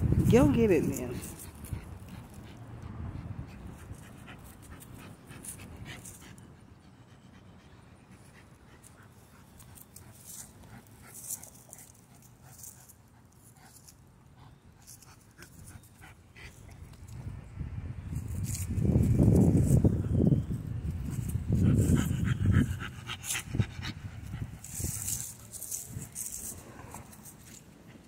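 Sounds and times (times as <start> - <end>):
dog panting: 1.0 - 17.0, 21.0 - 28.0.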